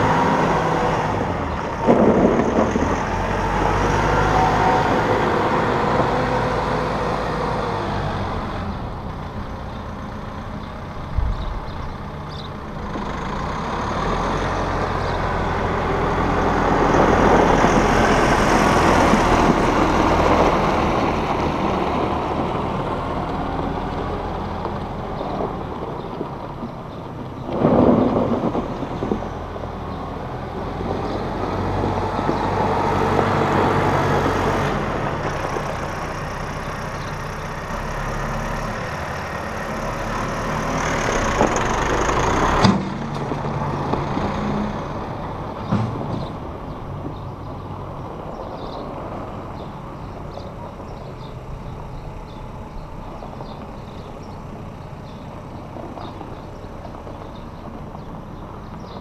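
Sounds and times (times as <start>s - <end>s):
tractor diesel engine passing: 0.0s - 59.0s.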